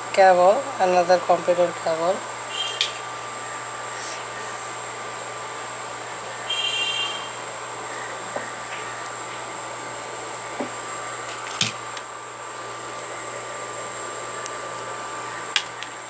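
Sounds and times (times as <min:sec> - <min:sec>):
faint high whine: 0:00.0 - 0:16.0
steady hiss: 0:00.0 - 0:16.0.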